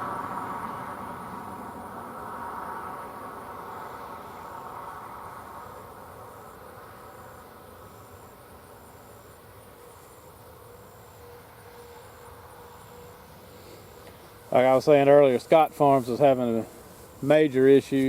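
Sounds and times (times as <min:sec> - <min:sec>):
distant hum of farm machinery: 0:00.0 - 0:18.0
insects chirping: 0:00.0 - 0:18.0.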